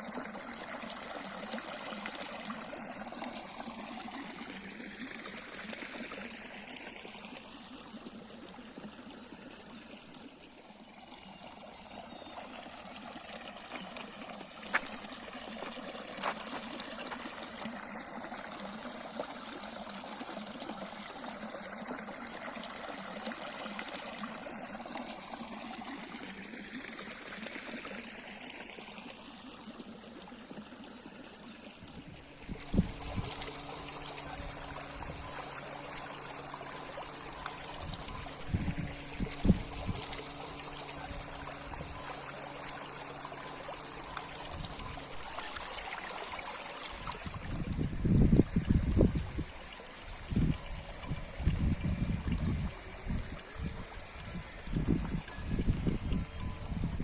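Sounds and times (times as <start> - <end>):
river water flowing: 0.0 - 56.8.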